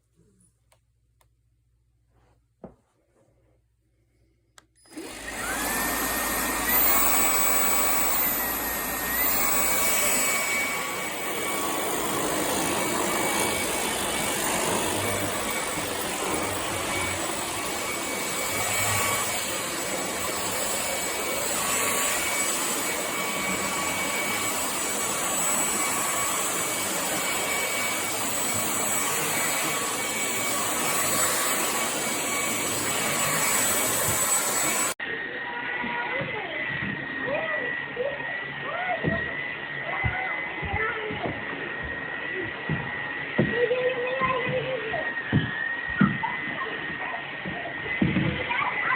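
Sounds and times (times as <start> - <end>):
vacuum cleaner running: 4.8 - 48.9.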